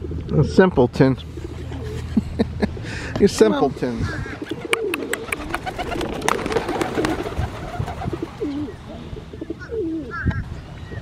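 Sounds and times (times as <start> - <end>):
pigeons cooing: 1.2 - 3.1, 3.9 - 11.0.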